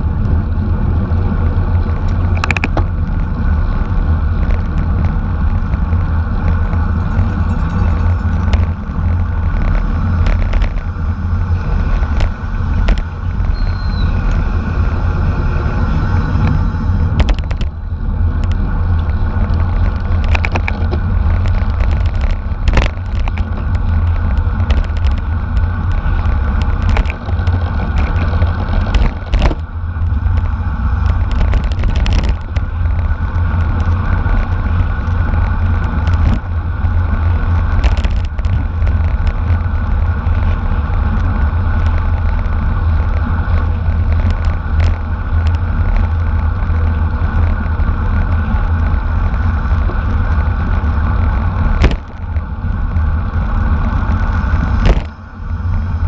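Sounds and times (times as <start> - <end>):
bicycle road noise: 0.0 - 56.0
wind rumble: 0.0 - 56.0.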